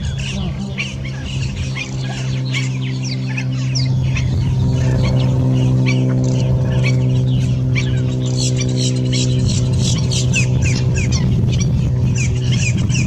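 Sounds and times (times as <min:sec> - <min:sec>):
steady low drone: 0:00.0 - 0:13.0
wetland birds calling: 0:00.0 - 0:13.0.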